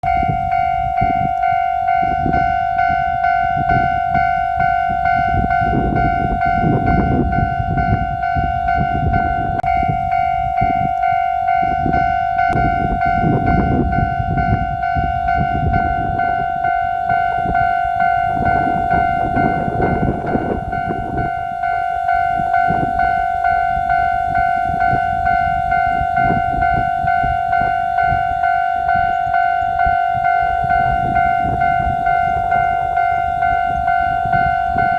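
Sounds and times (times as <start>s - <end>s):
electric train rumbling: 0.0s - 34.9s
level-crossing bell clanging: 0.0s - 34.9s.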